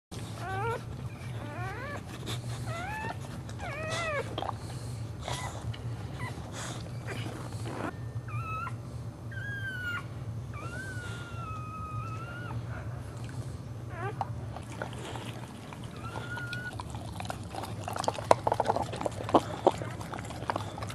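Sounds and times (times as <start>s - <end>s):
steady low hum: 0.1s - 20.9s
dog whimpering and whining: 0.2s - 4.6s, 5.2s - 13.1s, 13.8s - 20.9s.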